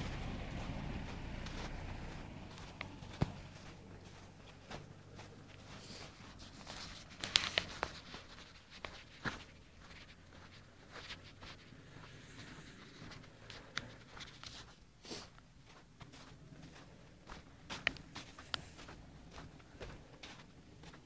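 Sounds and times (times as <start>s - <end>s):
footsteps on snow: 0.0s - 21.0s
scuffs and knocks: 0.1s - 21.0s.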